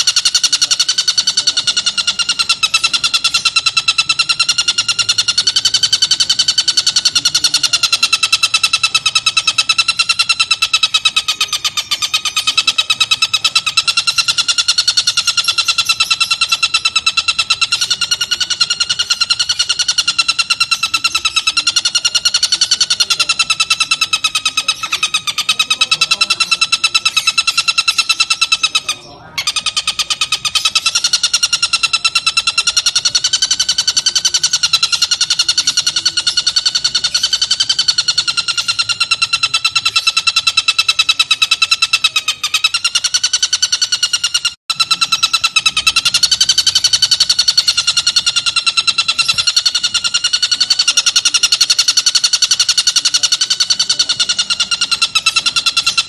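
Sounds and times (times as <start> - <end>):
bird chattering call: 0.0 - 56.0.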